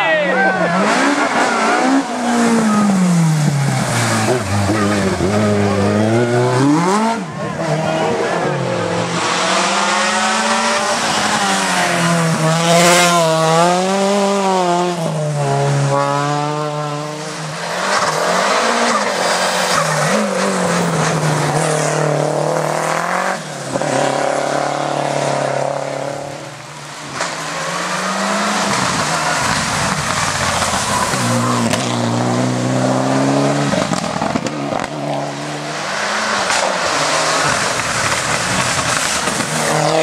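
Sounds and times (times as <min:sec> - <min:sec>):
race car engine revving: 0:00.3 - 0:40.0.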